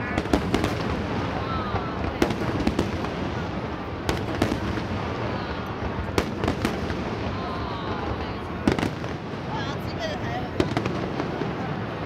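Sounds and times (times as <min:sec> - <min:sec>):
fireworks bursting: 0:00.0 - 0:12.0
fireworks crackle: 0:00.0 - 0:12.0.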